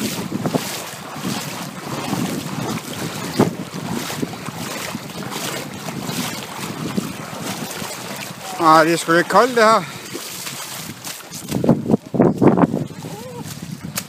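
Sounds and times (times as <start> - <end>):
feet wading through shallow water: 0.0 - 14.0
wind buffeting microphone: 0.0 - 14.0.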